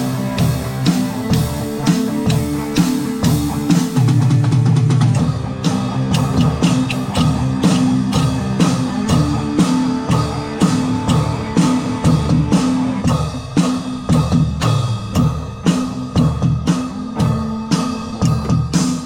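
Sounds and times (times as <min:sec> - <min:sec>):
drum kit beat: 0:00.0 - 0:19.0
electric guitar rock riff: 0:00.0 - 0:19.0.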